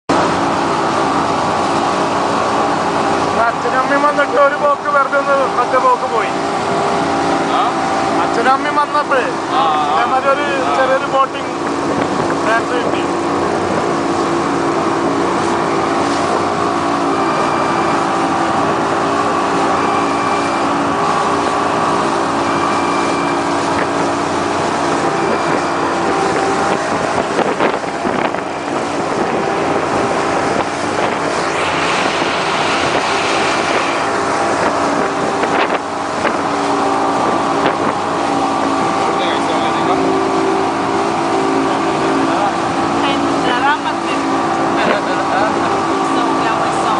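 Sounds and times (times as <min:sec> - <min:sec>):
outboard motor running: 0:00.1 - 0:46.9
rushing water: 0:00.1 - 0:46.9
wind on microphone: 0:09.2 - 0:46.9.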